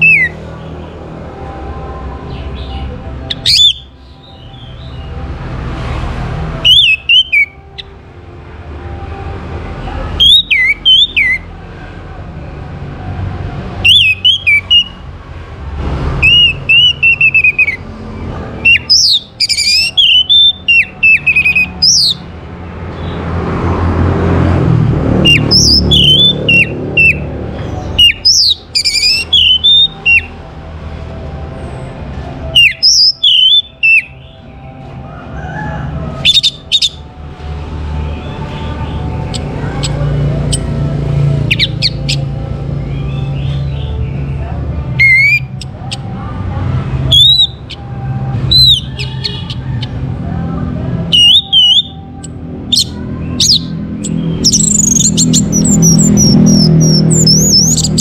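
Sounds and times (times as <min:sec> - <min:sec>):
thrush singing: 0:00.0 - 0:58.0.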